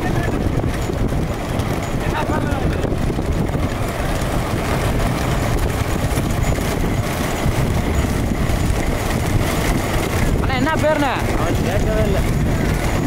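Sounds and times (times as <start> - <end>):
moving vehicle rumbling: 0.0 - 13.0.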